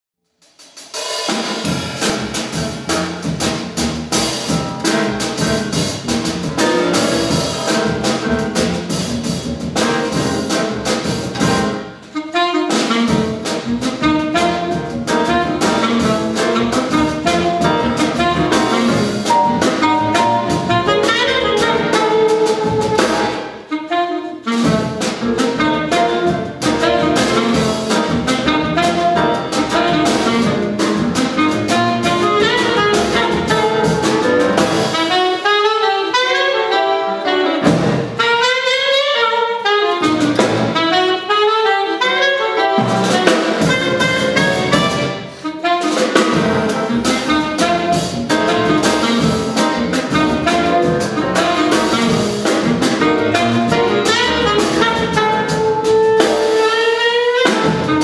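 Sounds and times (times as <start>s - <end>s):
drum kit: 0.3s - 58.0s
piano: 0.4s - 58.0s
double bass: 1.6s - 12.0s, 12.8s - 23.6s, 24.5s - 35.4s, 37.5s - 38.2s, 39.9s - 41.2s, 42.7s - 45.2s, 46.2s - 58.0s
saxophone: 4.5s - 9.0s, 9.8s - 58.0s.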